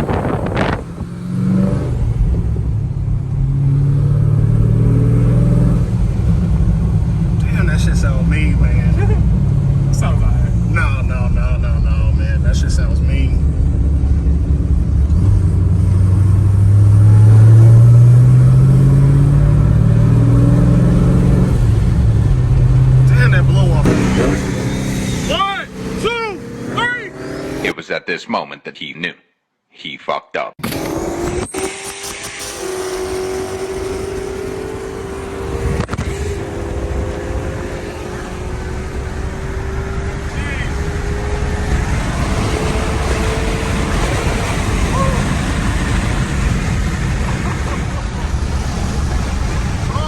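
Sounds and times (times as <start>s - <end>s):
car engine accelerating: 0.0s - 27.8s, 30.6s - 50.0s
road and wind noise: 0.0s - 27.8s, 30.6s - 50.0s.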